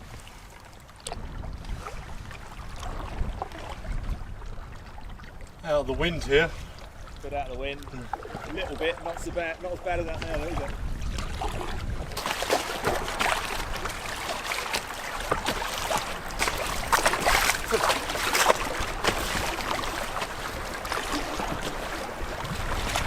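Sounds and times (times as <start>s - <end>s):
paddle strokes splashing: 0.0s - 23.0s
small waves against hull: 0.0s - 23.0s.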